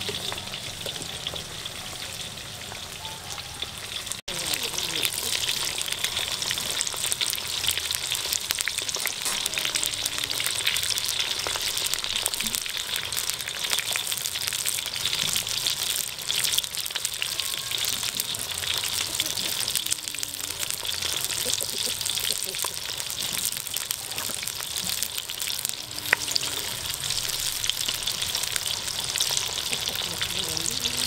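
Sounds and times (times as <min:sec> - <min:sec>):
food deep-frying in oil: 0:00.0 - 0:31.0.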